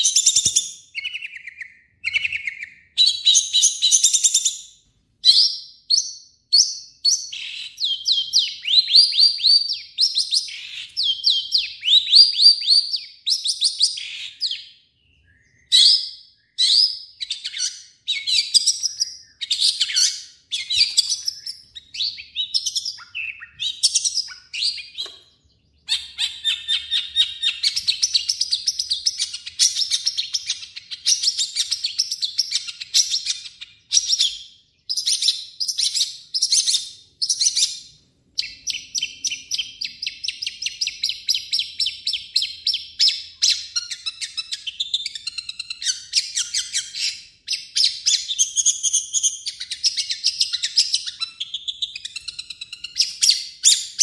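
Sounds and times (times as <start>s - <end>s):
bird singing chattering song: 0.0s - 54.0s.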